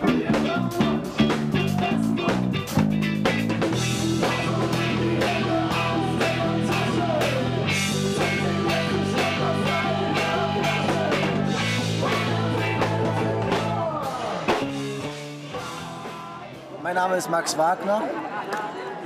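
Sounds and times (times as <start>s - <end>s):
electric guitar: 0.0s - 16.6s
bass guitar: 0.0s - 16.8s
drum kit beat: 0.0s - 16.8s.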